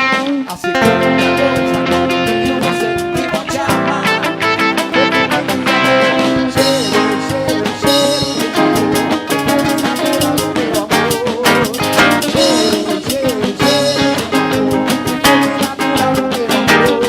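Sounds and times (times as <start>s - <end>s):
drum kit: 0.0s - 17.0s
guitar: 0.0s - 17.0s
latin band music: 0.0s - 17.0s.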